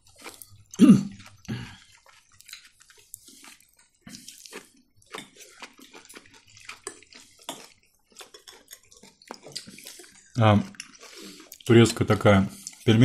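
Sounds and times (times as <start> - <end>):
wet chewing and mouth sounds: 0.0 - 13.0.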